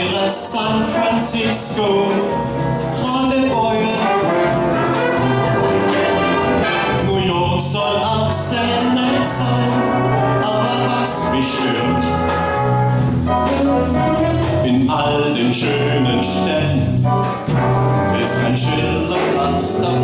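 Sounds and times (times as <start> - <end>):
big band playing: 0.0 - 20.0
trumpets and trombones: 0.0 - 20.0.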